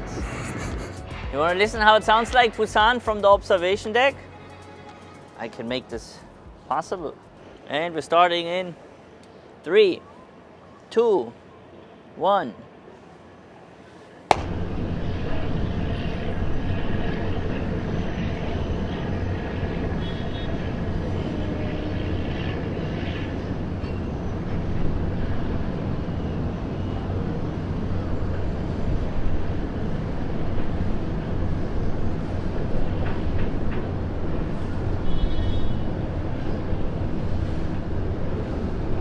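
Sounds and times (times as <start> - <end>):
distant traffic and city noise: 0.0 - 39.0.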